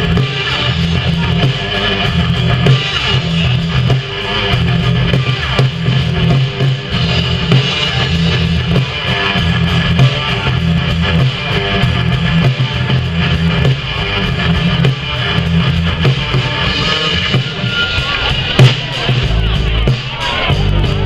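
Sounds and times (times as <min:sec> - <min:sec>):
drums: 0:00.0 - 0:21.0
electric guitar: 0:00.0 - 0:21.0
pulsing bass line: 0:00.0 - 0:21.0.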